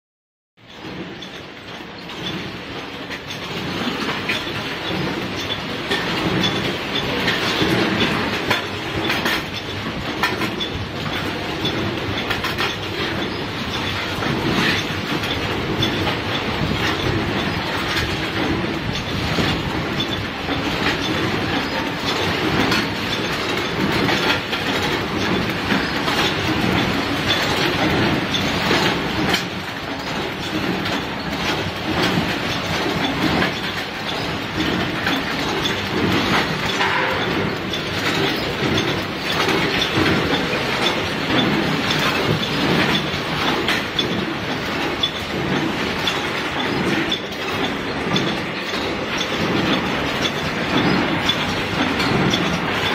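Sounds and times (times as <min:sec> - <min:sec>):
packing machine clatter: 0:00.6 - 0:52.9.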